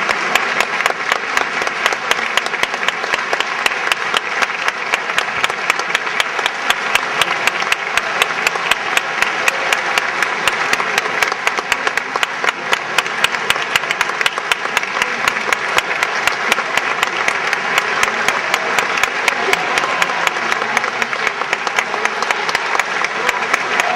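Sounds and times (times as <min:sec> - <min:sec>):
audience applauding rhythmically: 0:00.0 - 0:23.9.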